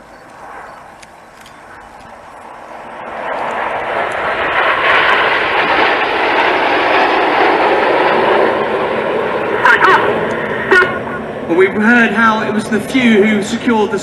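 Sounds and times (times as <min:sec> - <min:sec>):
jet planes passing overhead: 0:00.0 - 0:14.0.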